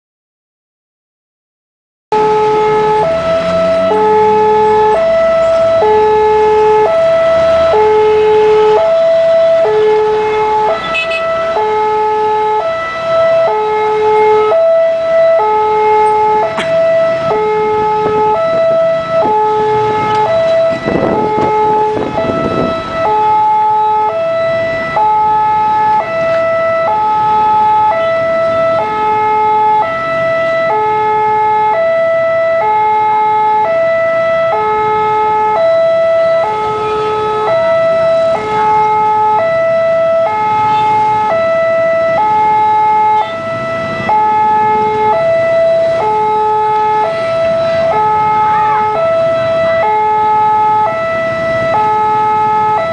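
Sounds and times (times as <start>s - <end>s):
level crossing alarm two-tone: 2.1s - 52.9s.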